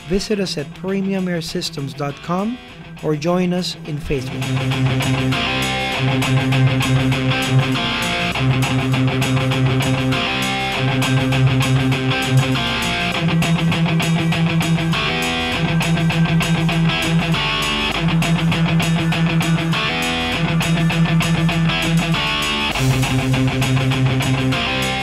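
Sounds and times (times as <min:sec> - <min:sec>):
guitar-led background music: 0:00.0 - 0:25.0.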